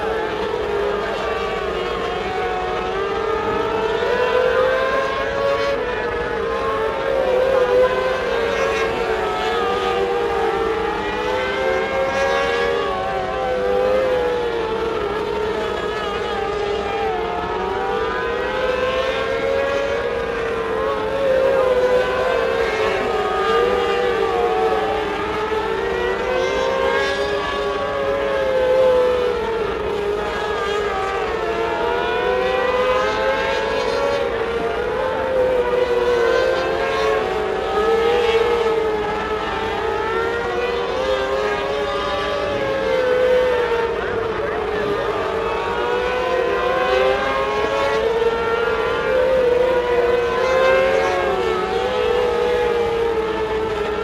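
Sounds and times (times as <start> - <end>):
race car engines whining: 0.0 - 54.0.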